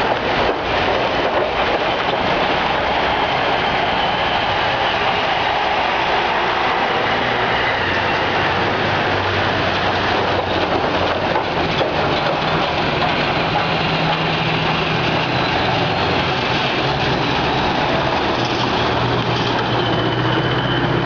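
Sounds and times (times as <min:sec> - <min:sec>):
heavy vehicle engines running: 0:00.0 - 0:21.0.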